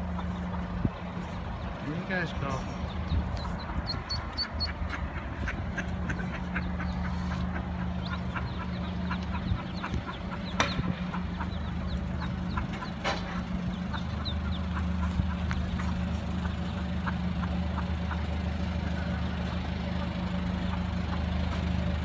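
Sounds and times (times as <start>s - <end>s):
ducklings peeping: 0.0s - 22.0s
low machine hum: 0.0s - 22.0s.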